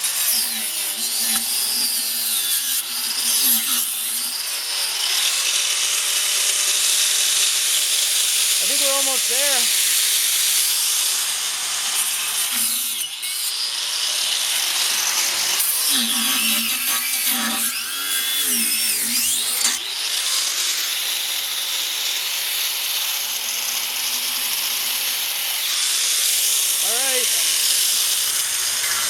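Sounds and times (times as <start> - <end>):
angle grinder cutting: 0.0 - 29.0.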